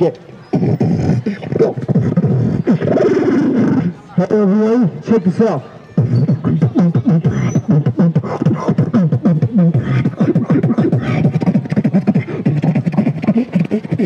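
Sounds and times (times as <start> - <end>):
man beatboxing: 0.0 - 14.0.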